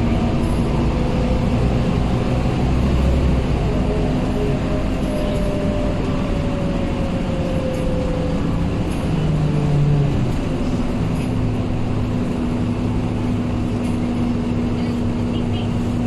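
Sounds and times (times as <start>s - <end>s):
diesel bus engine running: 0.0s - 16.0s
engine whine: 0.0s - 16.0s
road noise: 0.0s - 16.0s.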